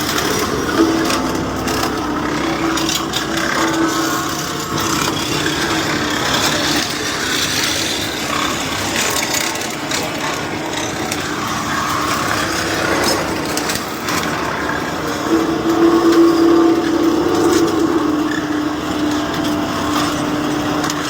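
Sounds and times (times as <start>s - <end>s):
heavy machine engine running: 0.0s - 21.0s
metal scraping and crunching: 0.0s - 21.0s.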